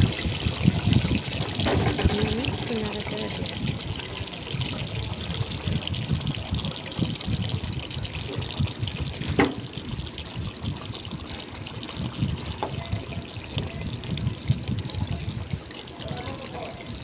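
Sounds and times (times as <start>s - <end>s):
curry bubbling in a pan: 0.0s - 17.0s.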